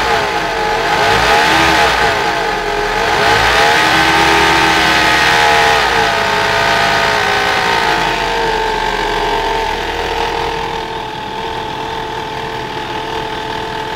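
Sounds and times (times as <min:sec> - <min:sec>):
engine revving and idling: 0:00.0 - 0:13.9.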